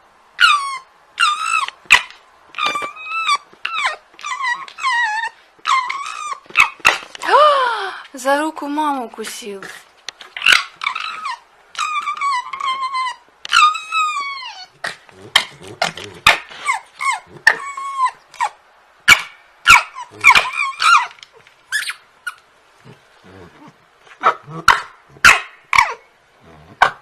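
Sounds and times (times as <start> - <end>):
dog barking and yelping: 0.4 - 7.0, 10.3 - 27.0.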